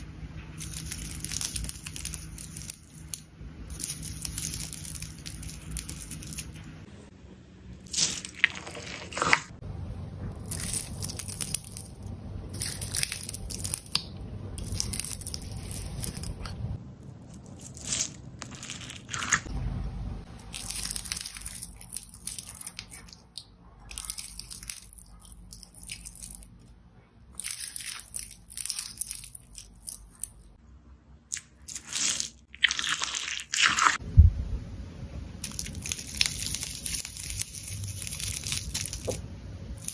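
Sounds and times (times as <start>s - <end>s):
slime crackling and popping: 0.6s - 6.6s, 7.8s - 9.6s, 10.3s - 16.6s, 17.2s - 19.5s, 20.4s - 26.6s, 27.3s - 30.5s, 31.3s - 34.0s, 35.4s - 39.2s.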